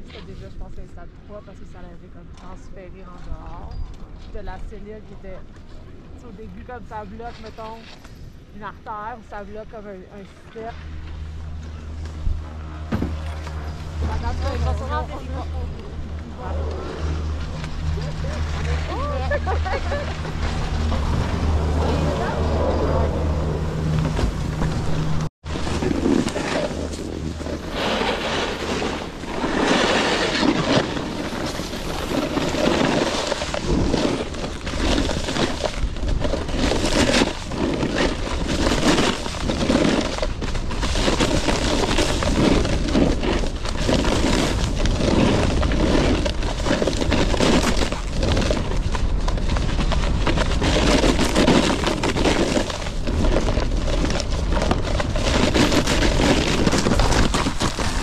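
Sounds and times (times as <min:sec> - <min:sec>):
snowboard scraping over snow: 0:08.6 - 0:58.0.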